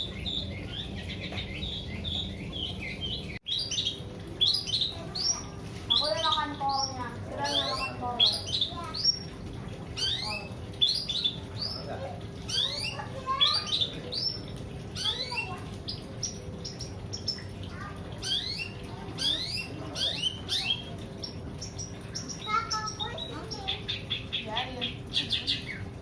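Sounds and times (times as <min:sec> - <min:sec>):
bird chirping: 0:00.0 - 0:09.4, 0:10.0 - 0:17.6, 0:18.2 - 0:26.0.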